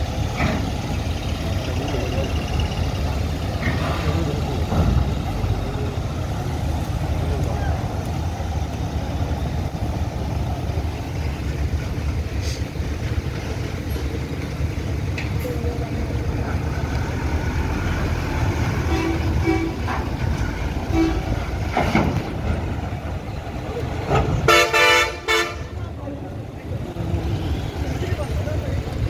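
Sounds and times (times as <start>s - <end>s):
bus and truck engines rumbling: 0.0s - 29.0s.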